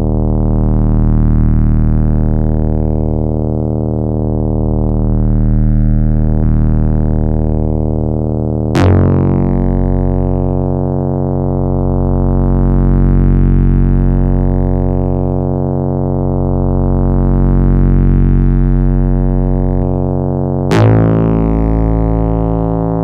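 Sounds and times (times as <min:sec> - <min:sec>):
bright synth bass sound: 0:00.0 - 0:23.0
synthesizer bass drone: 0:00.0 - 0:23.0.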